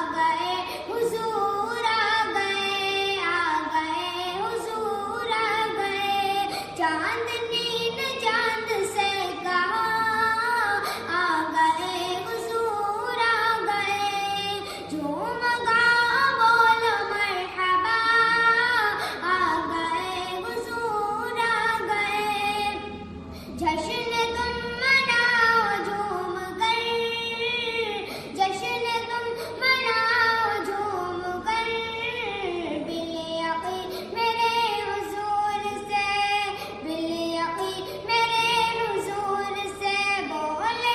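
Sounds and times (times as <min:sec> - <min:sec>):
high voice singing devotional song: 0:00.0 - 0:40.9.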